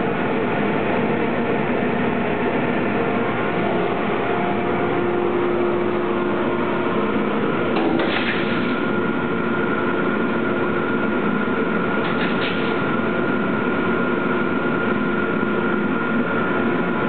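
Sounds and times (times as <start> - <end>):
steady machinery hum: 0.0 - 17.0.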